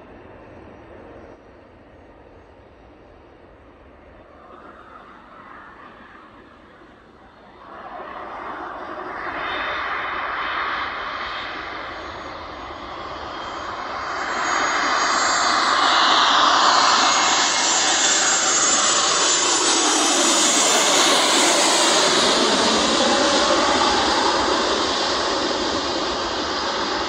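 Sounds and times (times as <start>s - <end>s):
jet engines roaring: 3.4s - 27.0s
falling-pitch engine whine: 4.4s - 27.0s.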